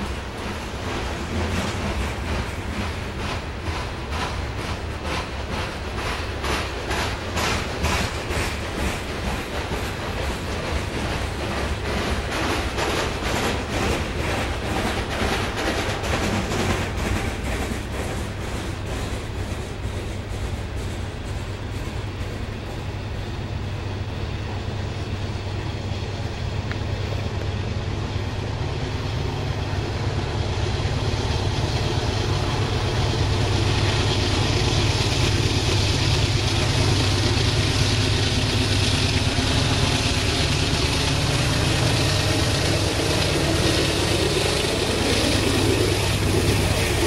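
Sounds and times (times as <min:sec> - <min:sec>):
diesel locomotive hum: 0:00.0 - 0:47.0
rail hiss: 0:00.0 - 0:47.0
train cars rumbling over rails: 0:00.0 - 0:47.0.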